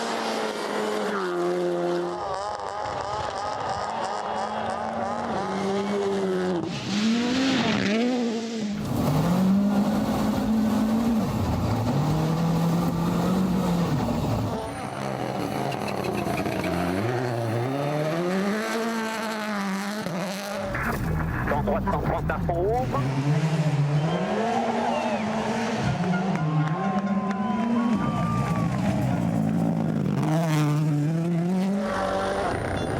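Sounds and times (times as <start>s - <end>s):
rally car engines revving: 0.0s - 32.9s.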